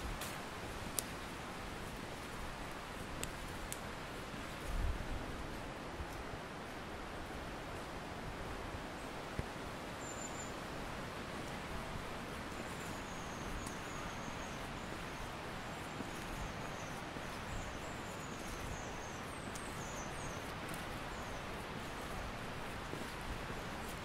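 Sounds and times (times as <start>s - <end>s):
rushing woodland background: 0.0s - 24.0s.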